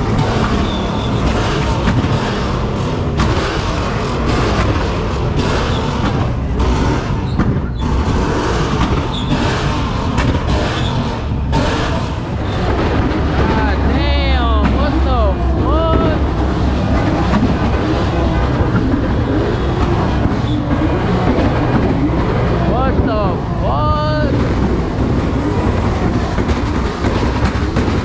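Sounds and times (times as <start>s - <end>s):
car engines running: 0.0s - 28.0s.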